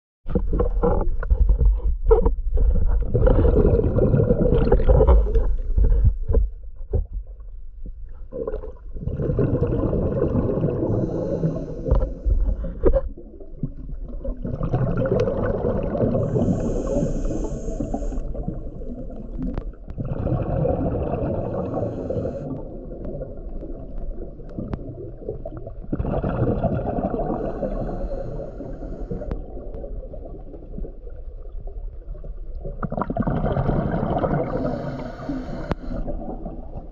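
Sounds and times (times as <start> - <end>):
water gurgling: 0.3 - 6.5, 8.1 - 36.9
muffled underwater rumble: 0.3 - 36.9.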